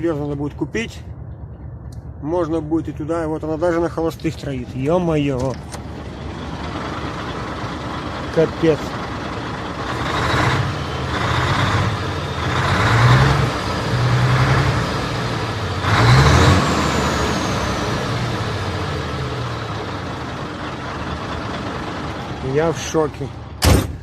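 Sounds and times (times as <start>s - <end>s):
diesel engine idling roughly: 0.2s - 24.0s.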